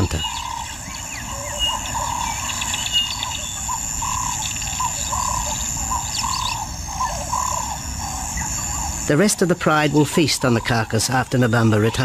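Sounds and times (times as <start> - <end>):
bird chirping calls: 0.0 - 12.0
high-pitched insect drone: 0.0 - 12.0.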